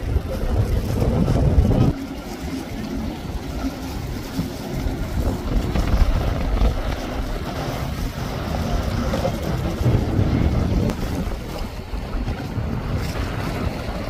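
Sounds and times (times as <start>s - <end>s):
motorboat engine rumble: 0.0s - 14.0s
wind buffeting microphone: 0.0s - 14.0s.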